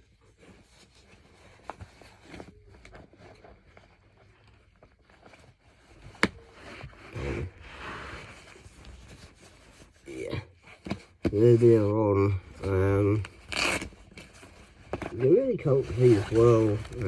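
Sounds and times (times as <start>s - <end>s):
knee pad strap rustling: 0.1s - 17.0s.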